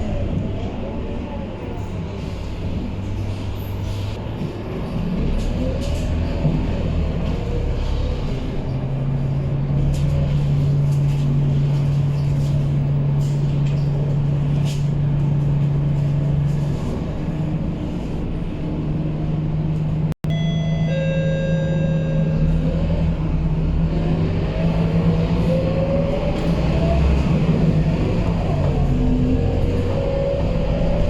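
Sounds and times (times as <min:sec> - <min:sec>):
bus diesel engine droning: 0:00.0 - 0:31.0.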